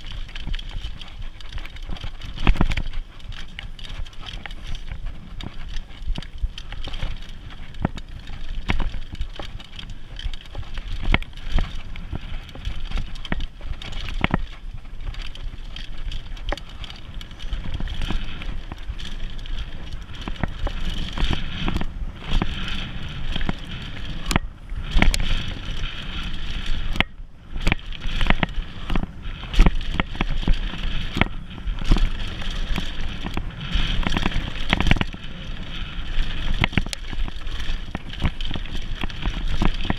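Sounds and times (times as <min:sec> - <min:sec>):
bike rattling over bumps: 0:00.0 - 0:39.9
bike rolling on dirt: 0:00.0 - 0:39.9.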